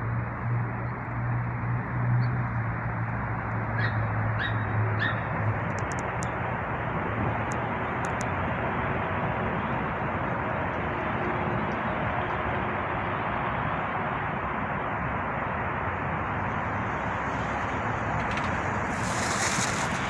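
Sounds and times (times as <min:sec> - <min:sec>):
rushing outdoor noise: 0:00.0 - 0:20.0.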